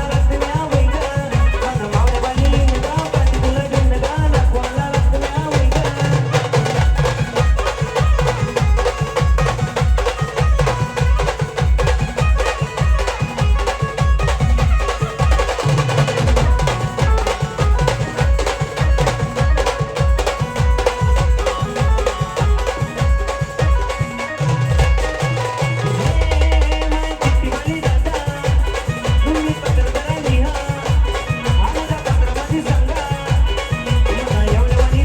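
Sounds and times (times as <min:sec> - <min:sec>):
driving drum beat: 0:00.0 - 0:35.0
folk band playing: 0:00.0 - 0:35.0.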